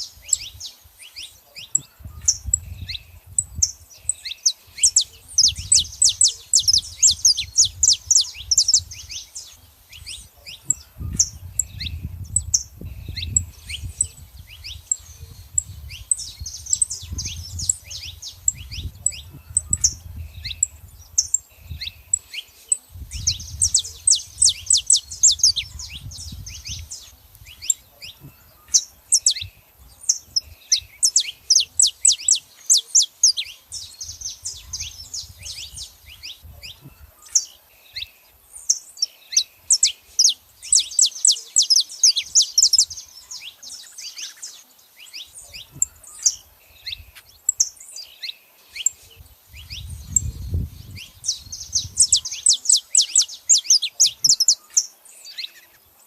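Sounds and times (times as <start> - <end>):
finches chirping: 0.0 - 56.0.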